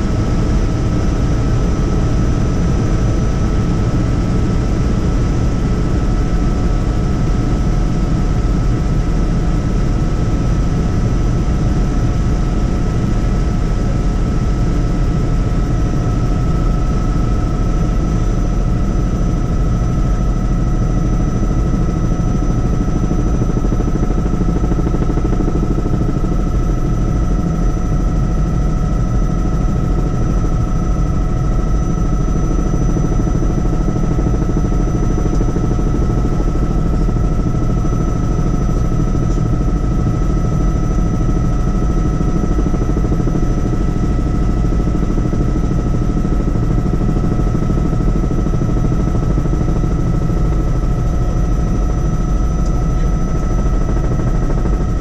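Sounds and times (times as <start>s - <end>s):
helicopter rotor and engine rumble: 0.0s - 55.0s.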